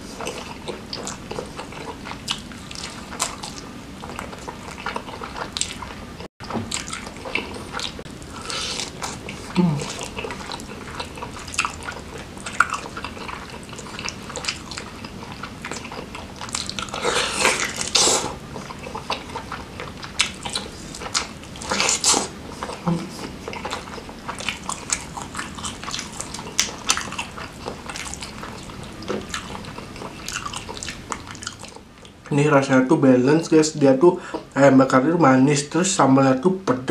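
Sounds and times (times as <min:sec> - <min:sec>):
chewing with wet clicks: 0:00.2 - 0:32.3.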